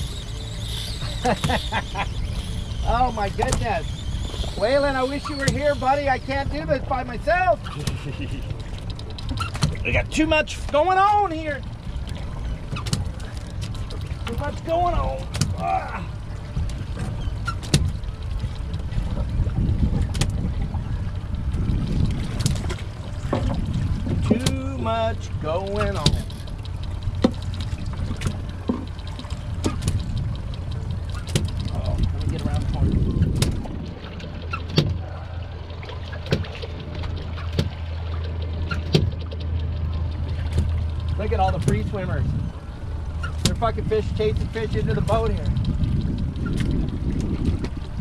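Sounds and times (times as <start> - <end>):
steady low hum: 0.0 - 48.0
water lapping against boat hull: 0.0 - 48.0
wind buffeting microphone: 0.0 - 48.0.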